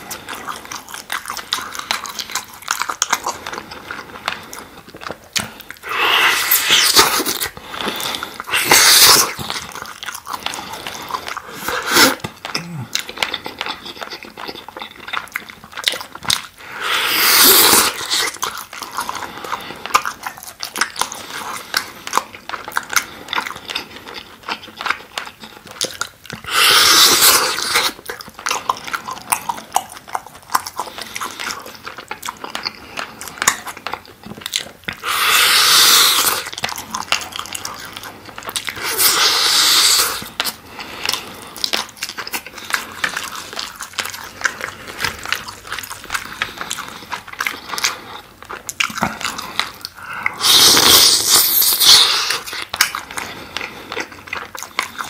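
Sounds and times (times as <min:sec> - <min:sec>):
chewing with mouth clicks: 0:00.0 - 0:55.0.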